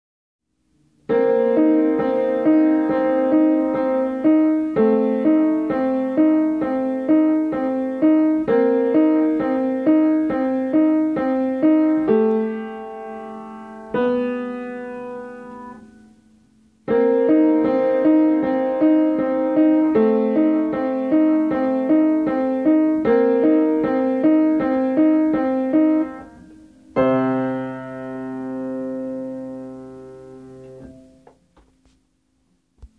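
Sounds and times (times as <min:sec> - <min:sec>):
upright piano playing: 0:01.0 - 0:31.5.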